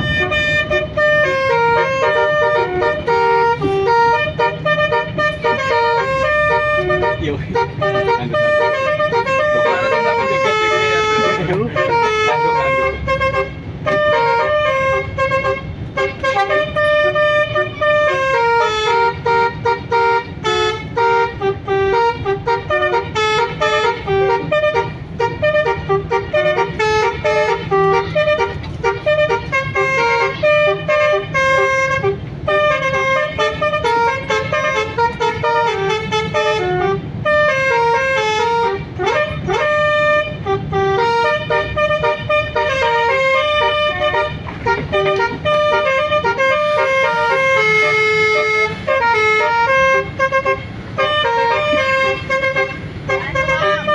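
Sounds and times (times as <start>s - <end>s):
low engine rumble: 0.0s - 53.9s
multi-tone bus horn melody: 0.0s - 53.9s.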